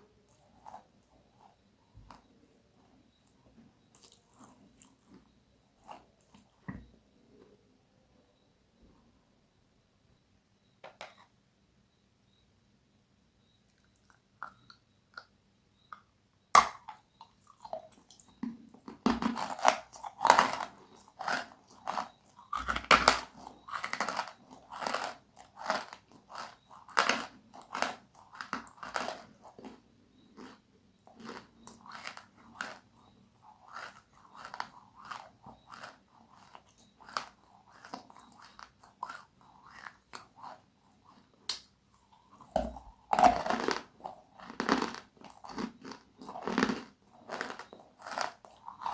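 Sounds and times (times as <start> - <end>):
crunchy food chewing: 0.0 - 7.1, 13.7 - 15.3, 16.5 - 48.9.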